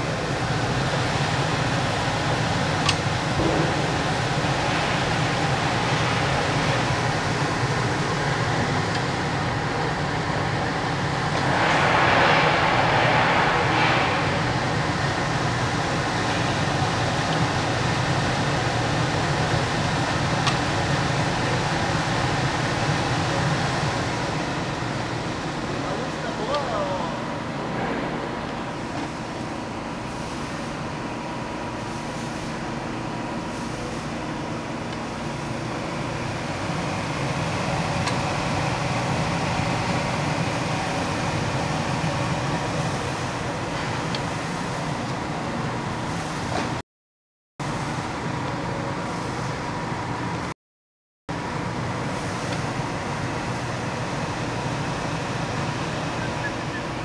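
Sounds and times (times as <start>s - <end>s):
parts washer machine humming: 0.0s - 46.8s.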